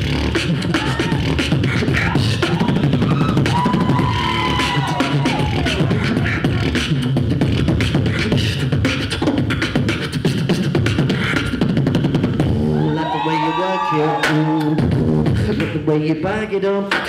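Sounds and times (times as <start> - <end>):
heavy bass line: 0.0 - 16.7
person beatboxing: 0.0 - 17.0.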